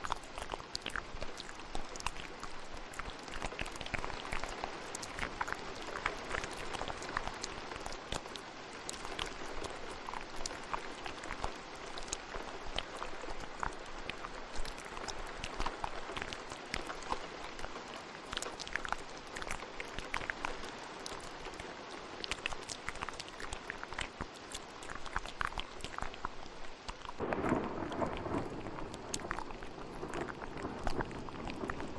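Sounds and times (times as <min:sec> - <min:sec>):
steady rain: 0:00.0 - 0:31.9
wet mouth clicks and pops: 0:00.0 - 0:31.9.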